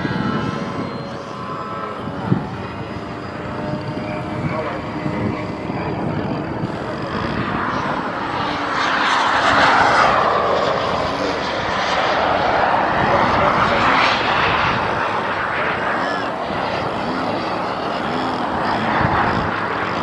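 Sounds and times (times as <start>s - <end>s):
model plane motor and propeller: 0.0s - 20.0s.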